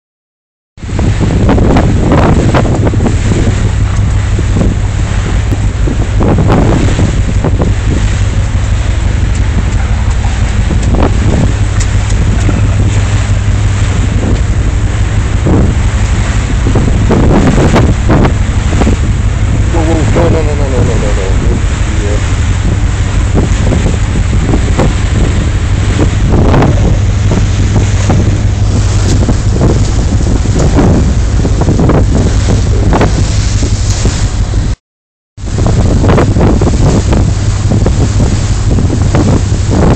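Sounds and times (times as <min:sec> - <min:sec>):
ship low rumble: 0:00.8 - 0:34.8, 0:35.4 - 0:39.9
wind buffeting microphone: 0:00.8 - 0:34.8, 0:35.4 - 0:39.9.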